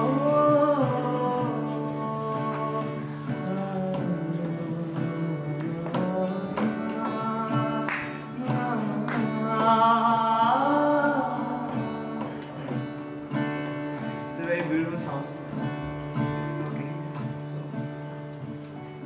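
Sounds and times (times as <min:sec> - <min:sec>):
man singing: 0:00.0 - 0:13.0, 0:14.2 - 0:18.3
acoustic guitar strumming: 0:00.0 - 0:19.0.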